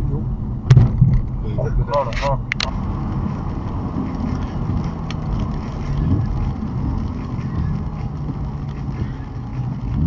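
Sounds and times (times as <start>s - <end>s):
car engine droning: 0.0s - 10.0s
road noise: 0.0s - 10.0s.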